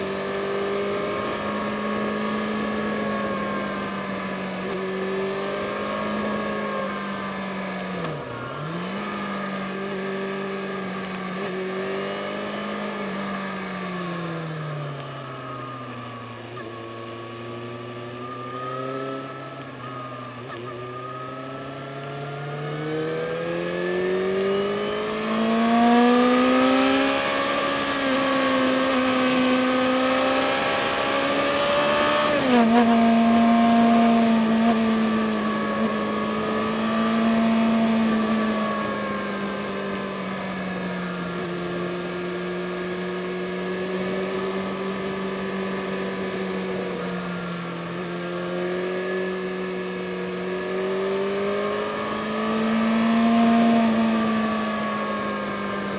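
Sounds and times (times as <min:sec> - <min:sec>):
motorcycle engine under load: 0:00.0 - 0:55.9.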